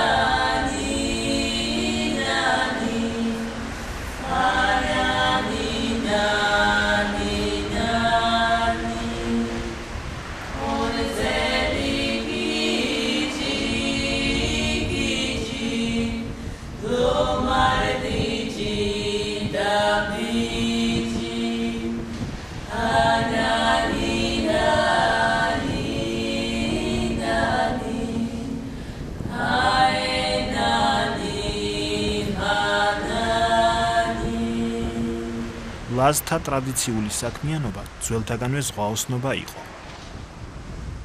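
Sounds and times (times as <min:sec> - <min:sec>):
women singing upper voices: 0:00.0 - 0:35.9
low sung drone: 0:00.0 - 0:36.6.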